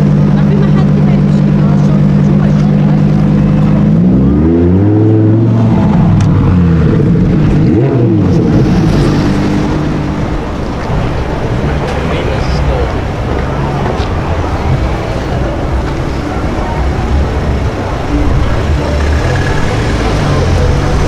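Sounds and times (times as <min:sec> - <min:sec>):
sports car engine revving: 0:00.0 - 0:21.0.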